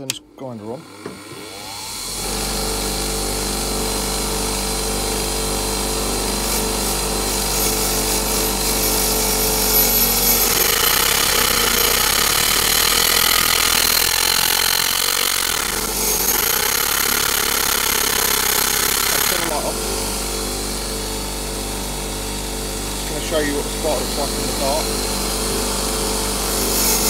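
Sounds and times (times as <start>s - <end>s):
bench grinder motor running: 0.6s - 27.0s.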